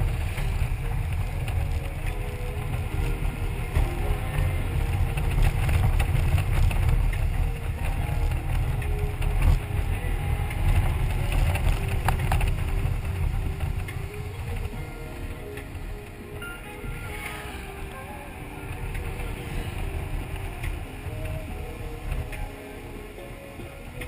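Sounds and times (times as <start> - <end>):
road and engine noise: 0.0 - 24.0
wind buffeting microphone: 0.0 - 24.0.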